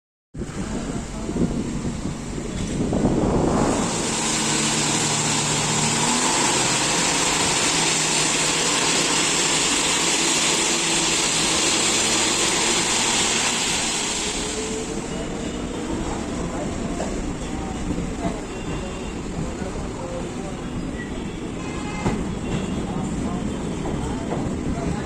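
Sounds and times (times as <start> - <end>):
electric train rushing: 0.4 - 25.0.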